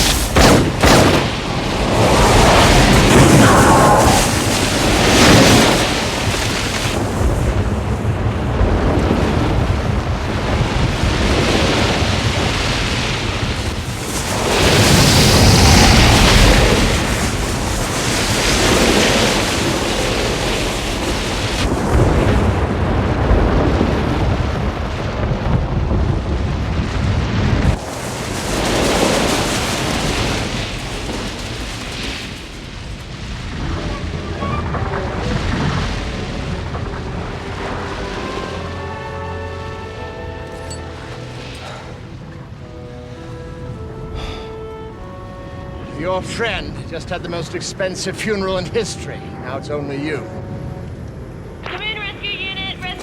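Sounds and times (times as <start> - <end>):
avalanche rumble of sliding snow: 0.0 - 53.0.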